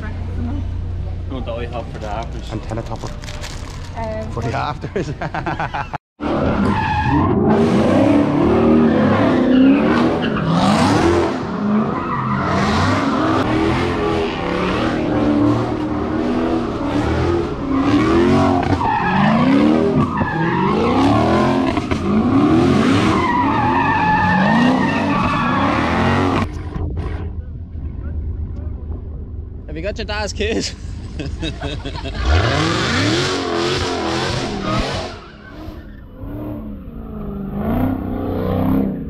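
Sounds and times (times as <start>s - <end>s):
car engine revving: 0.0s - 29.3s, 30.9s - 39.0s.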